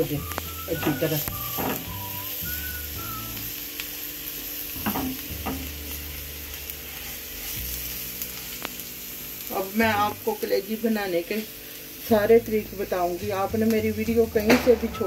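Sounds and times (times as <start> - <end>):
onions and garlic sizzling in oil: 0.0 - 15.0.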